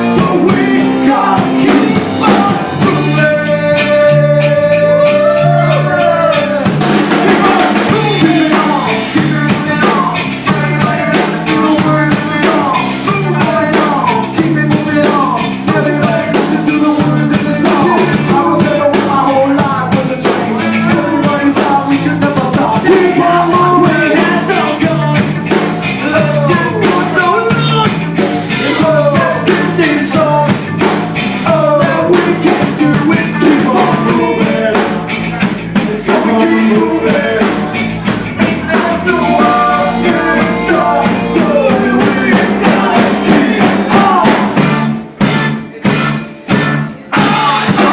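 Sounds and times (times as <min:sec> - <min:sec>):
person singing: 0:00.0 - 0:30.8, 0:31.4 - 0:44.8, 0:45.6 - 0:47.9
band playing upbeat rock: 0:00.0 - 0:47.9
steady drum kit beat: 0:00.0 - 0:47.9.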